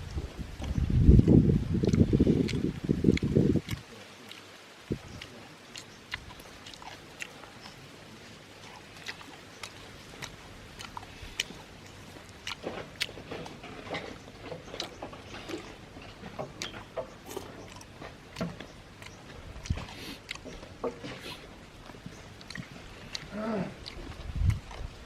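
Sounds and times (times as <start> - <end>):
person chewing wetly: 0.1 - 25.0.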